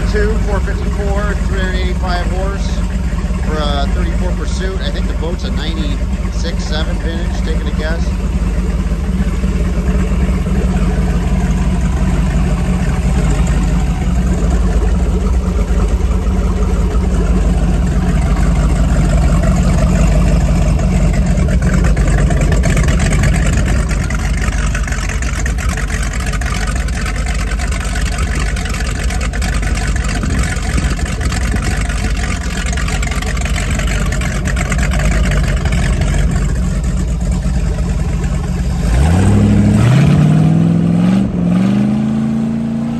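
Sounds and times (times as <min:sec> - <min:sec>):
boat engine running steadily: 0:00.0 - 0:42.9
exhaust spraying water: 0:00.0 - 0:42.9.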